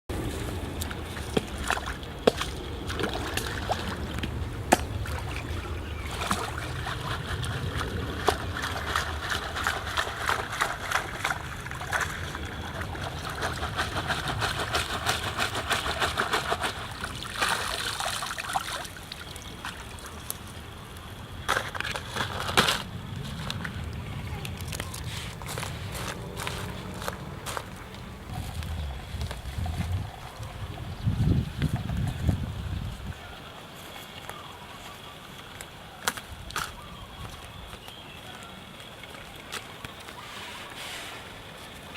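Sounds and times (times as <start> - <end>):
water sloshing and trickling: 0.2 - 20.7, 21.5 - 35.8.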